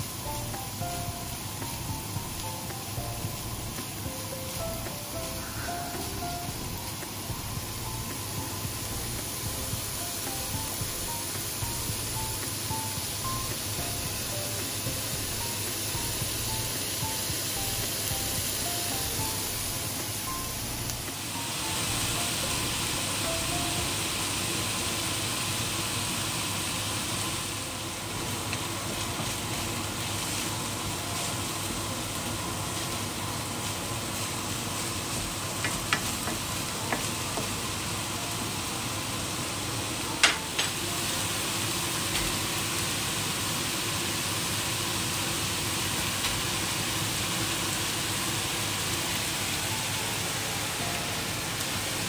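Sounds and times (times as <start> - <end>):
meat sizzling in a frying pan: 0.0 - 52.0.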